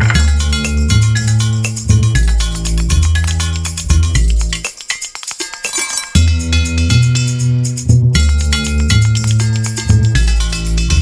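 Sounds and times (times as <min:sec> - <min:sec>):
upbeat music with bass line: 0:00.0 - 0:11.0.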